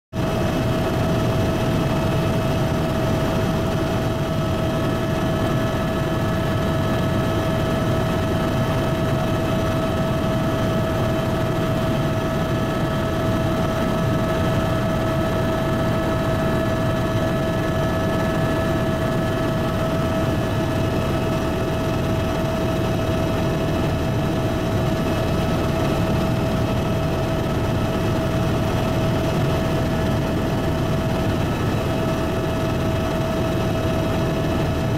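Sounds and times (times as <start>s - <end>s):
helicopter engine and rotor: 0.2s - 34.9s.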